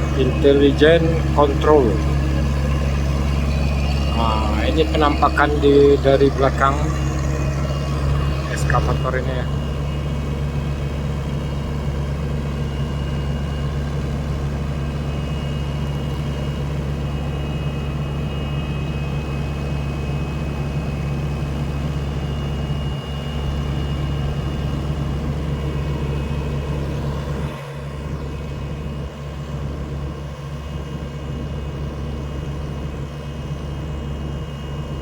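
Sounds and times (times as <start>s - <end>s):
excavator diesel engine: 0.0s - 35.0s
faint high whine: 0.0s - 35.0s.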